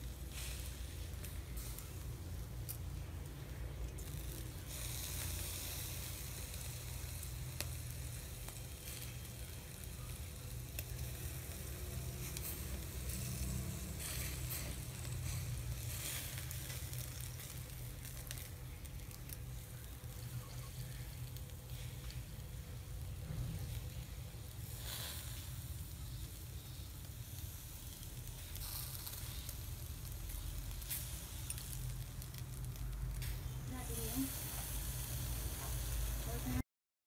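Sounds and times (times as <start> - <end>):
low rumble: 0.0 - 36.6
meat sizzling on a grill: 0.0 - 36.6
fat popping on coals: 0.1 - 36.5.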